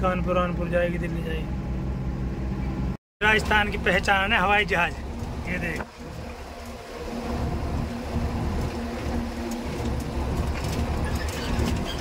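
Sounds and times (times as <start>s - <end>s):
road rumble: 0.0s - 12.0s
truck engine running: 0.0s - 12.0s.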